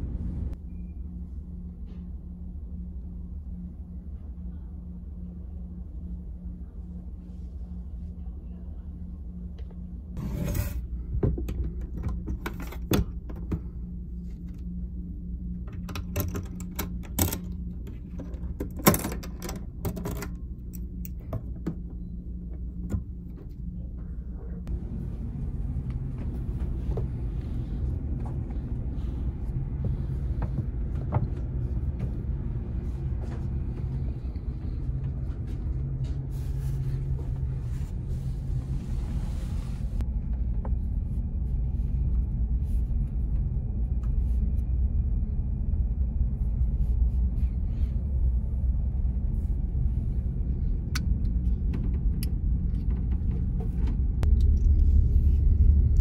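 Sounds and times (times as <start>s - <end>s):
ferry engines droning: 0.0s - 56.0s.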